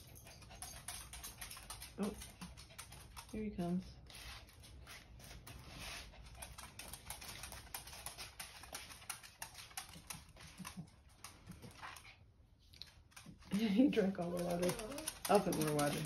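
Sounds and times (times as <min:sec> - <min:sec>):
dog claws clicking on floor: 0:00.0 - 0:16.0.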